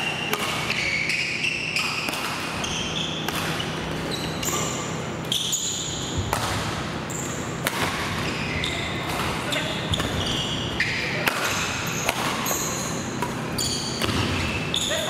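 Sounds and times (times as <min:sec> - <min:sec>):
rackets hitting shuttlecock: 0:00.1 - 0:07.0, 0:07.6 - 0:08.4, 0:09.0 - 0:14.7.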